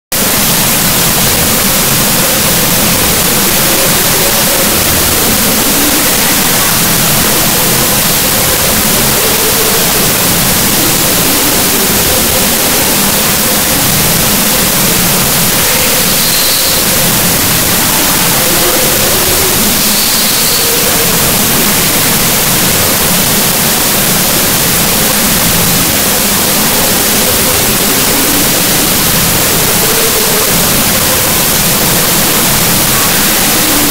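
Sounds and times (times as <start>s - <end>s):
static hiss: 0.1s - 33.9s.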